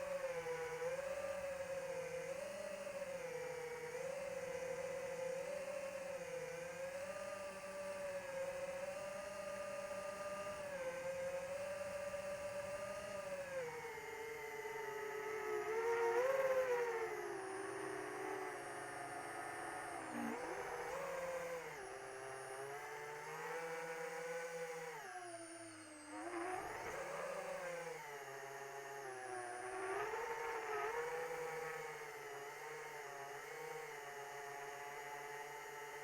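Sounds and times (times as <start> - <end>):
rc plane electric motor and propeller: 0.0 - 36.0.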